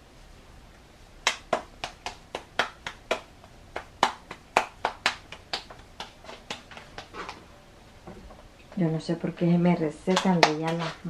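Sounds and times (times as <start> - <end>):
hands patting dough: 1.2 - 7.5, 8.1 - 11.0.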